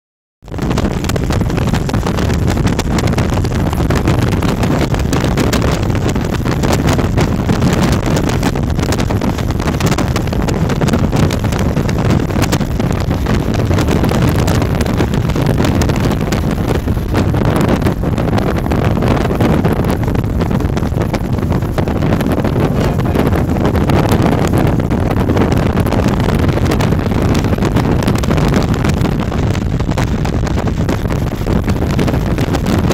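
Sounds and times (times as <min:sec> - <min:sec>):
wind buffeting microphone: 0:00.4 - 0:32.9.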